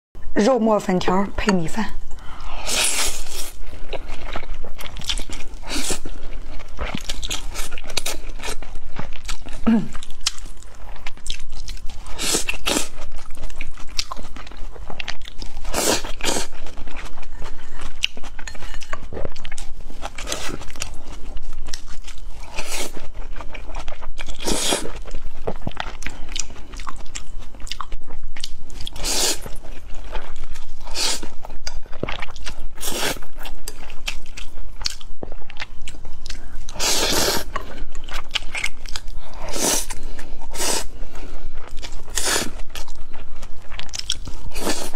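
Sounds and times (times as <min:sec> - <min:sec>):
person chewing food: 0:02.0 - 0:44.9.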